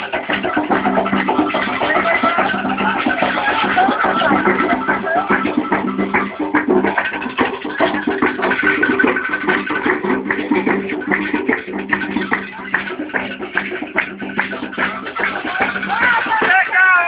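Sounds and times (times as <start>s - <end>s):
hand drums playing rapidly: 0.0s - 17.0s
sustained steady tones: 0.0s - 17.0s.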